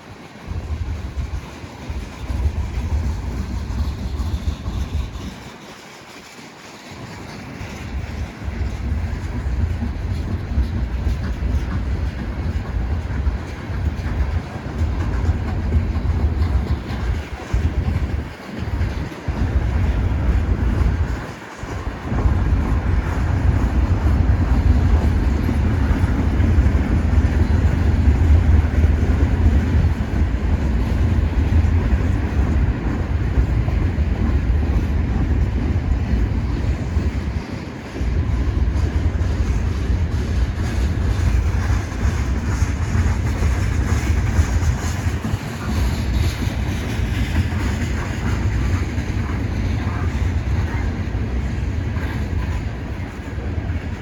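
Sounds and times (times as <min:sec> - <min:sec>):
freight train wheels rumbling on rail: 0:00.0 - 0:54.0.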